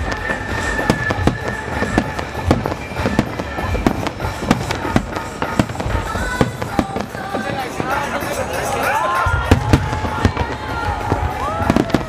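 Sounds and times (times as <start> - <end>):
fireworks booming: 0.0 - 12.0
music soundtrack: 0.0 - 12.0.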